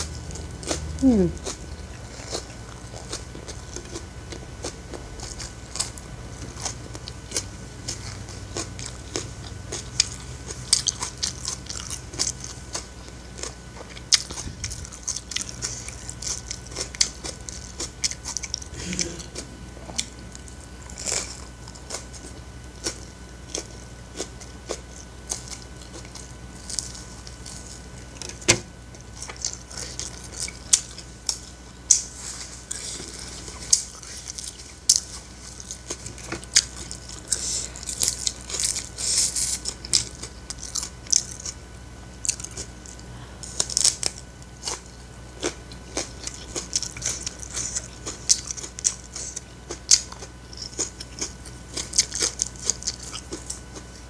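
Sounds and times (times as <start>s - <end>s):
chewing crunchy food: 0.0s - 54.0s.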